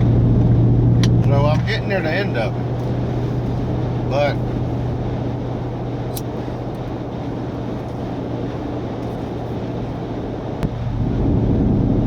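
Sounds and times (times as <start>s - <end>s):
road and engine drone in car: 0.0s - 12.0s.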